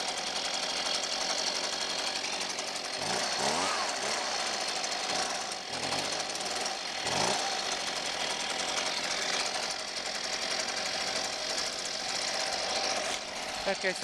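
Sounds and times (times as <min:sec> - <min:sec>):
leaf blower engine running: 0:00.0 - 0:14.0.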